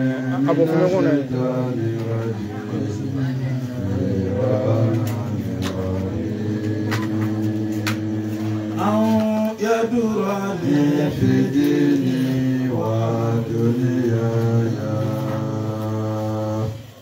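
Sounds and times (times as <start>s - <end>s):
man chanting into microphone: 0.0s - 17.0s
steady low hum: 0.0s - 17.0s.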